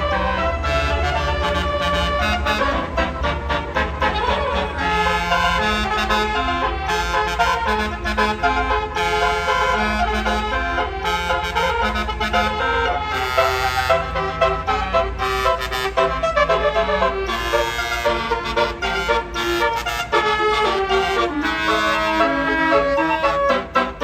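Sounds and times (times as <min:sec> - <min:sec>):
bus musical horn tune: 0:00.0 - 0:24.0.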